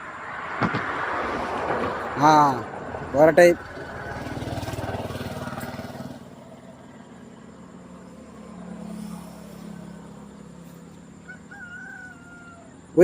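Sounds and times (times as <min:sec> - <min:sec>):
engine running with low hum: 0:00.1 - 0:13.0.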